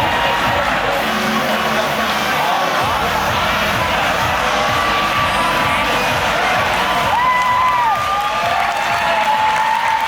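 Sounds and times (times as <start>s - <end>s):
crowd cheering and shouting: 0.0s - 10.0s
music playing: 0.0s - 10.0s.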